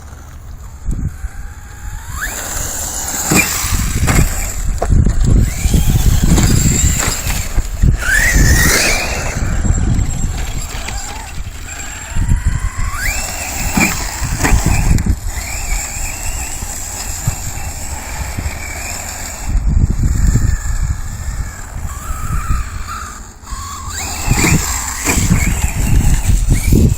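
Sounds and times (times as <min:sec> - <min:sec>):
steady low rumble: 0:00.0 - 0:26.9
toy truck motors whining: 0:00.0 - 0:26.9.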